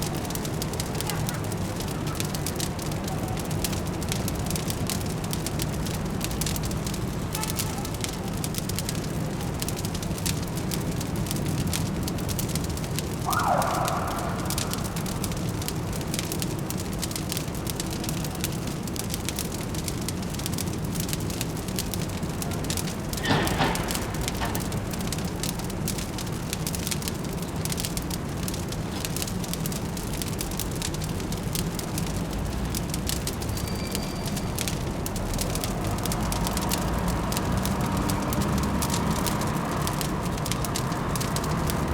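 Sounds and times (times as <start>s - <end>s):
fireplace crackling: 0.0s - 41.9s
low city hum: 0.0s - 41.9s.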